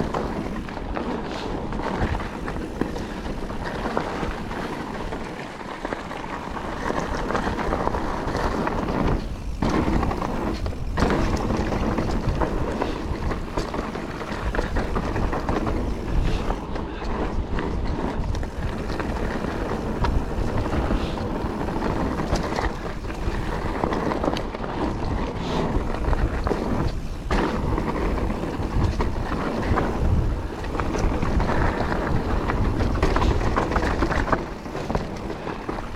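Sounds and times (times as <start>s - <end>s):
bike rattling: 0.0s - 35.9s
tyres crunching on gravel: 0.0s - 35.9s
wind buffeting microphone: 0.0s - 35.9s.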